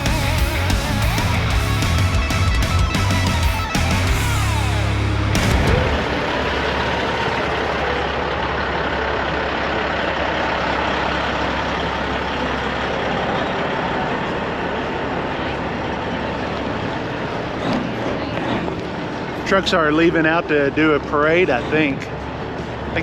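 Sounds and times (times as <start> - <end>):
mechanical noise: 0.0 - 9.0, 12.2 - 23.0
diesel truck engines rumbling: 0.0 - 23.0.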